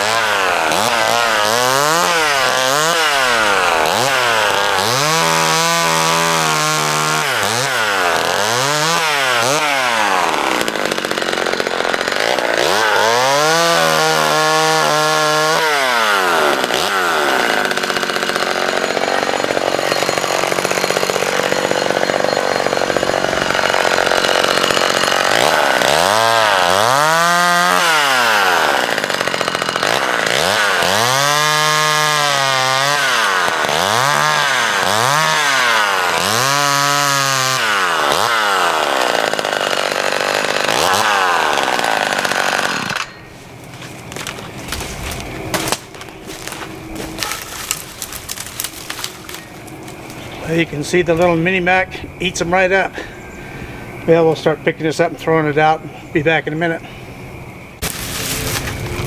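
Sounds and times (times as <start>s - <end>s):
chainsaw revving: 0.0s - 51.4s, 57.8s - 59.0s
chainsaw cutting branches: 0.0s - 51.6s, 57.8s - 59.0s.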